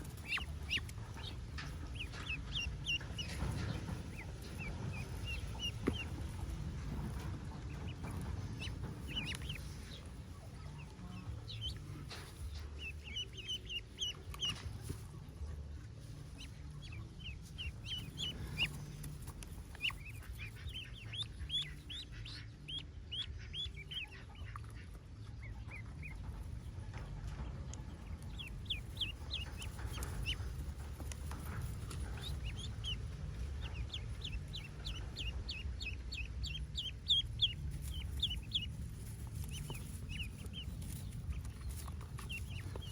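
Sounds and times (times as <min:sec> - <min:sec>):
ducklings peeping: 0:00.0 - 0:42.9
steady low rumble: 0:00.0 - 0:42.9.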